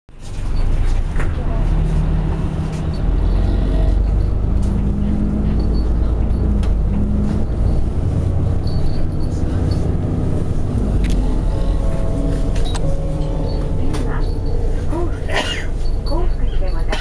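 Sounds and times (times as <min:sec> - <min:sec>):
bus engine rumbling: 0:00.1 - 0:17.0.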